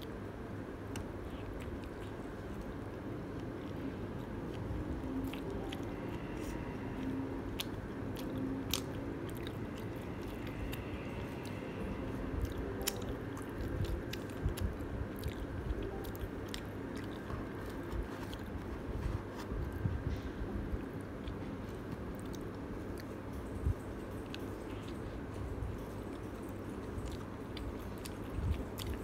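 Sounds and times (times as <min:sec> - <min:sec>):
chewing pizza crust: 0:00.0 - 0:29.0.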